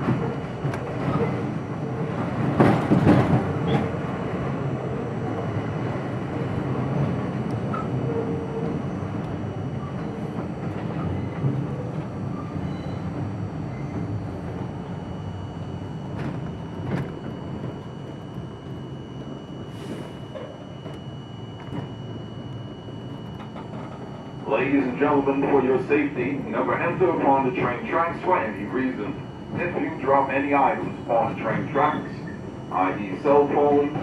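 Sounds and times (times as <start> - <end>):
subway wheels rumbling on rail: 0.0 - 34.0.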